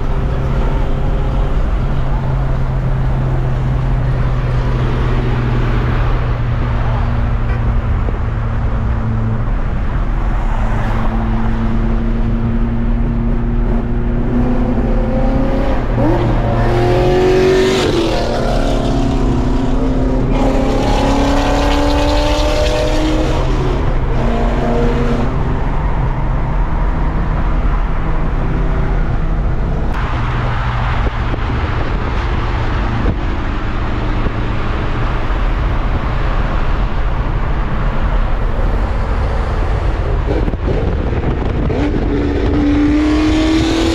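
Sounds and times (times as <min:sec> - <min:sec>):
car engines accelerating: 0:00.0 - 0:43.9.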